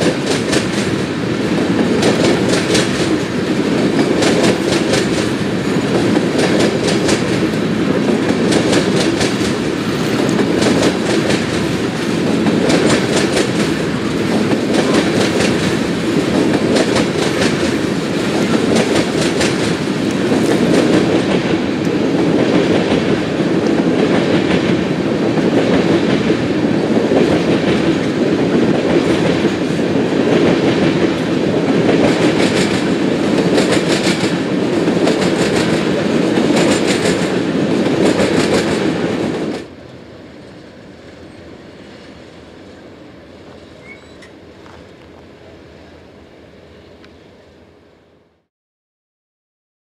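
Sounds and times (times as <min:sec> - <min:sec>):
wheels clacking over rail joints: 0:00.0 - 0:42.1
freight cars rumbling: 0:00.0 - 0:48.1.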